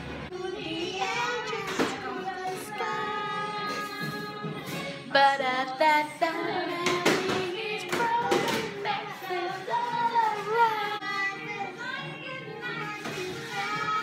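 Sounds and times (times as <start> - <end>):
children singing: 0.3 - 14.0.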